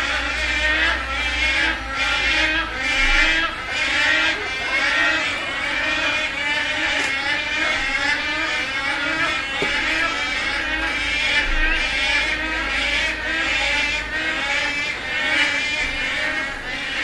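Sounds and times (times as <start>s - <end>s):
storks calling in chorus: 0.0s - 17.0s.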